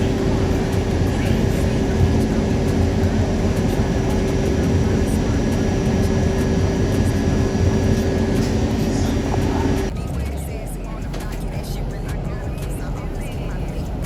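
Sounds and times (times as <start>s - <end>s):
subway wheels rumbling on track: 0.0s - 14.0s
train motor hum: 0.0s - 14.0s.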